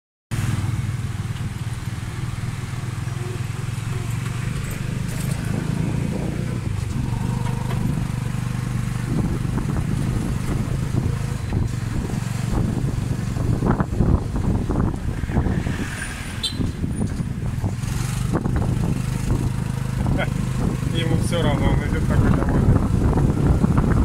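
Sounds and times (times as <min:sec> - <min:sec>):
road noise: 0:00.3 - 0:24.0
motorcycle engine hum: 0:00.4 - 0:24.0.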